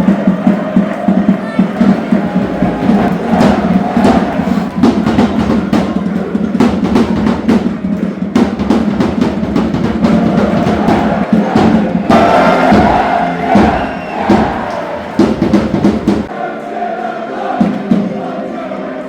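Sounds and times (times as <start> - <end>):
heavy drum beat: 0.0 - 16.3
crowd chanting: 0.0 - 19.0.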